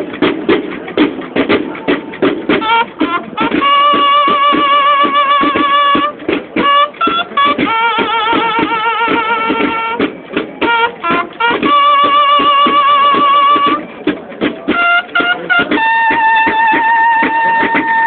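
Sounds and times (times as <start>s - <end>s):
snare drums: 0.0s - 18.0s
bugles playing: 0.1s - 18.0s.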